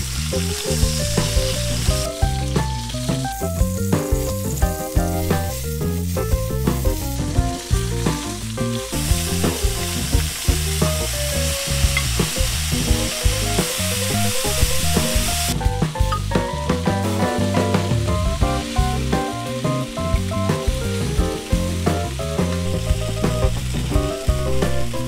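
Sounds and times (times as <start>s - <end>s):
background music with steady beat: 0.0s - 25.0s
chicken sizzling in oil: 0.0s - 25.0s.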